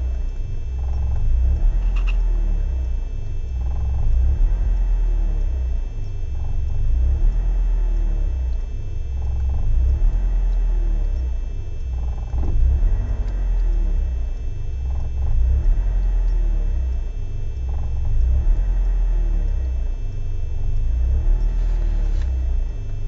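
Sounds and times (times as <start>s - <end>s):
car engine idling roughly: 0.0s - 23.0s.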